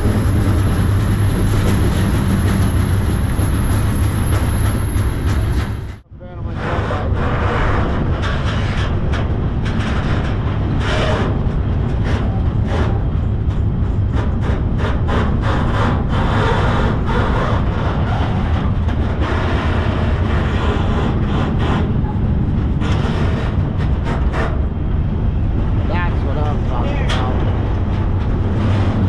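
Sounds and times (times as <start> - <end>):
freight train rumbling: 0.0 - 29.0
train clanks and rattles: 0.0 - 29.0.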